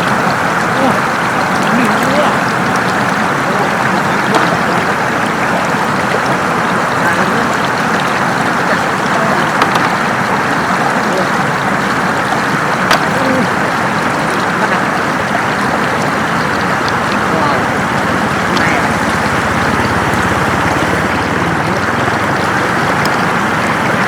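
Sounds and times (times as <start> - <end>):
floodwater rushing over road: 0.0 - 24.0.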